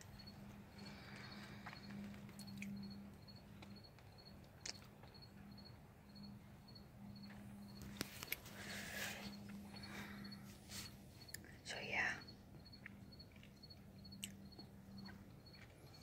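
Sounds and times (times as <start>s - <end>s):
cricket chirping: 0.0s - 16.0s
faint low hum: 0.0s - 16.0s.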